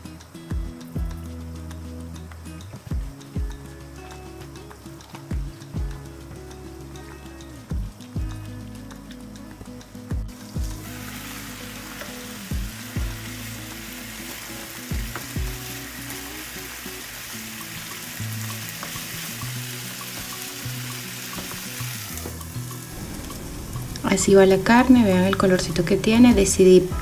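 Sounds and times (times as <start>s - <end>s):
background music: 0.0s - 27.0s
meat and onions sizzling: 0.0s - 27.0s.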